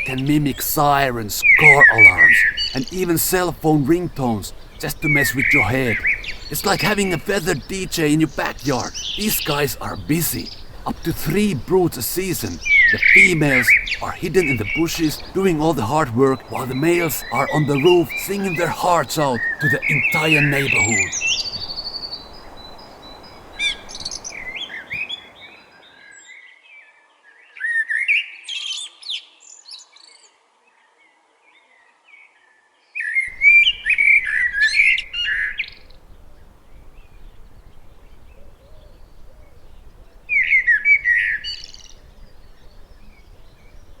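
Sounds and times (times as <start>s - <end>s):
blackbird singing: 0.0s - 26.1s, 33.3s - 44.0s.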